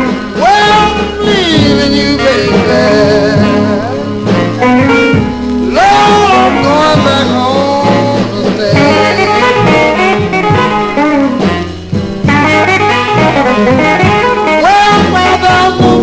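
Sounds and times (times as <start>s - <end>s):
electric blues band: 0.0s - 16.0s
electric guitar lead bending notes: 0.0s - 16.0s.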